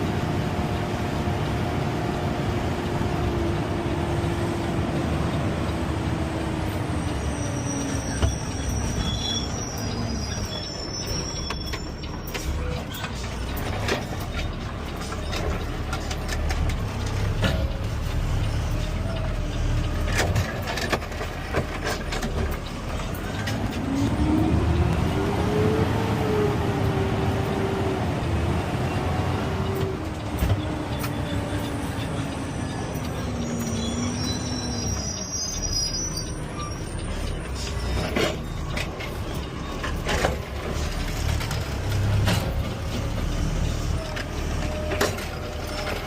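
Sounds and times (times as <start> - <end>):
garbage truck engine rumble: 0.0 - 46.0
brake squeal: 3.8 - 46.0.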